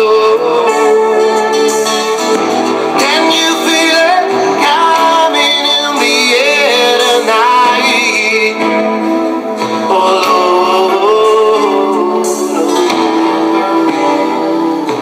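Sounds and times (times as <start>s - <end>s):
man singing over guitar: 0.0s - 15.0s.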